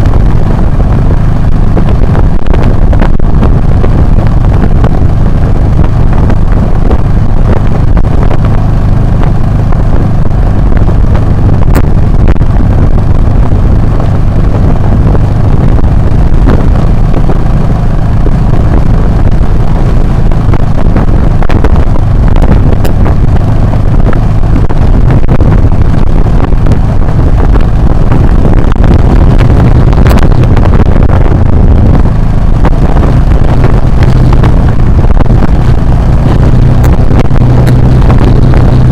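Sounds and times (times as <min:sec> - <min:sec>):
motorcycle engine running: 0:00.0 - 0:38.9
wind buffeting on microphone: 0:00.0 - 0:38.9.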